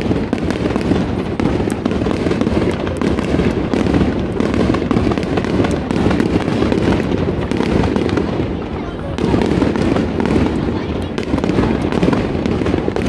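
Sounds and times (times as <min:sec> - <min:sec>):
fireworks booming and cracking: 0:00.0 - 0:13.0.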